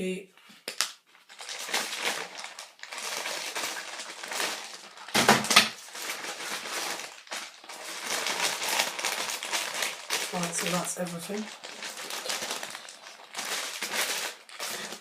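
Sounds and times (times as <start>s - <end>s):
packaging rustling and crinkling: 0.4s - 15.0s.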